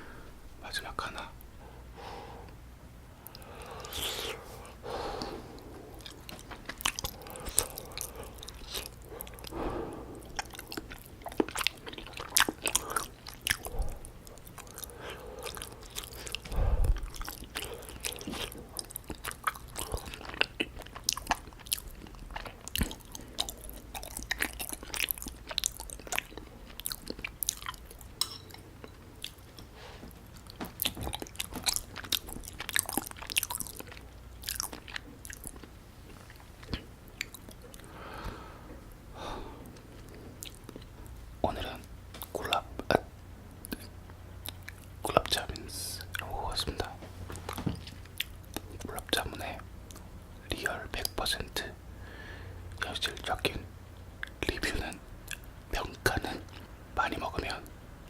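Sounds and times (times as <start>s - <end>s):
wet chewing sounds: 3.2s - 38.9s, 39.6s - 51.7s, 52.7s - 57.7s.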